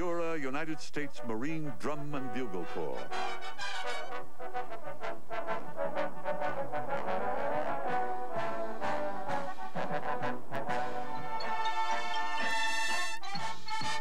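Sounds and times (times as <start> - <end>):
brass bugles sounding chords: 0.0 - 14.0.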